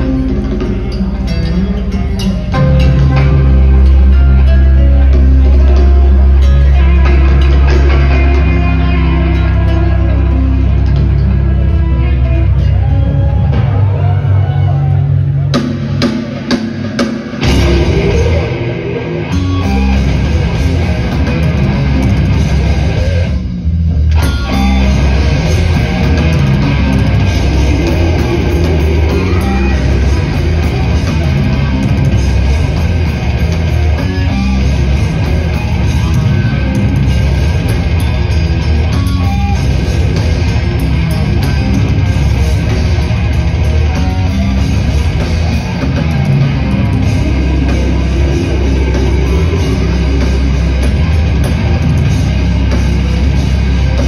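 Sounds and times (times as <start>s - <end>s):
death metal band playing live: 0.0s - 54.0s.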